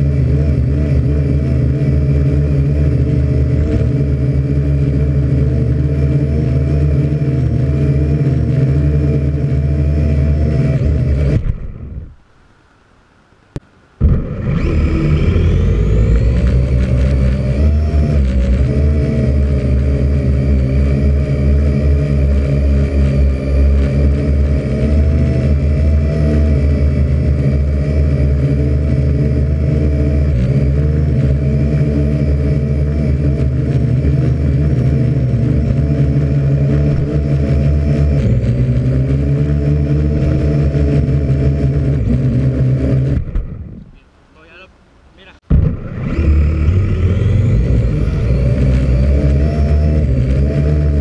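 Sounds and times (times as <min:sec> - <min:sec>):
quadcopter motors humming: 0:00.0 - 0:12.3, 0:14.0 - 0:51.0.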